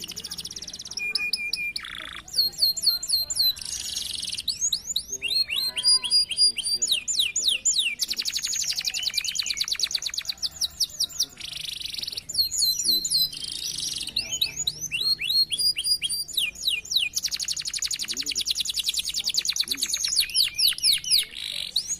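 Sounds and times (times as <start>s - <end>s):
canary singing with trills: 0.0s - 21.9s.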